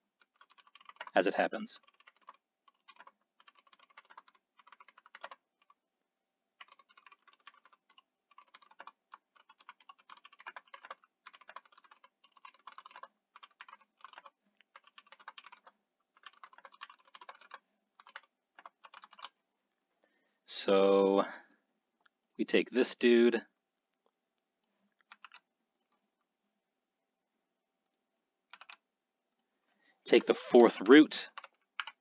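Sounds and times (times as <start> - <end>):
faint typing on computer keyboard: 0.0 - 5.9, 6.5 - 20.1, 24.0 - 26.3, 27.8 - 32.0.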